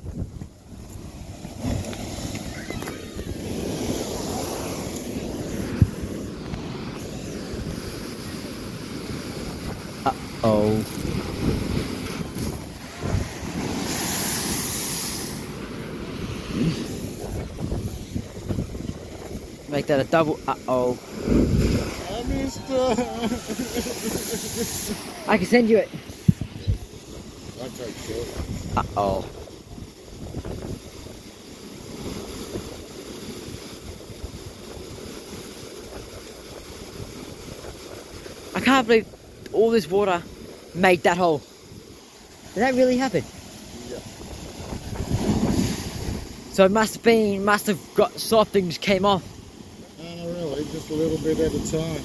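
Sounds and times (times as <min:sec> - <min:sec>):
wind rumble on microphone: 0:00.0 - 0:39.6, 0:43.2 - 0:46.5
sea surf churning in rocks: 0:00.0 - 0:52.0
water blasting from blowhole: 0:00.0 - 0:52.0.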